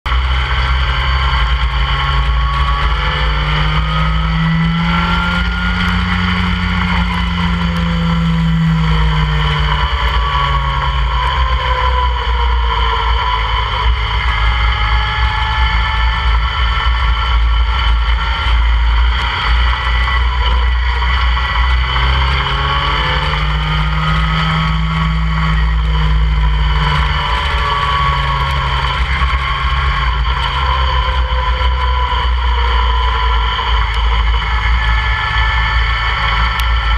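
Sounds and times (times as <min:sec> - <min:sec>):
race car engine revving: 0:00.1 - 0:36.9.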